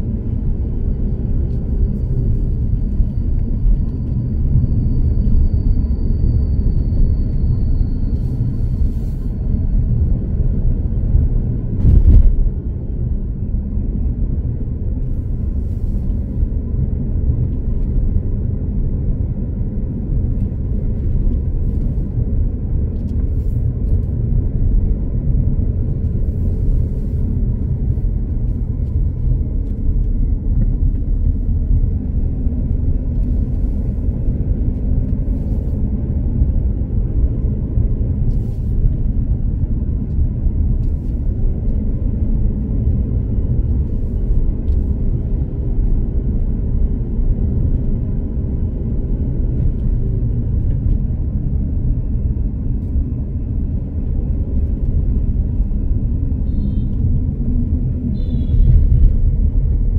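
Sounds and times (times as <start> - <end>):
vehicle engine and tyres rumbling: 0.0 - 59.9.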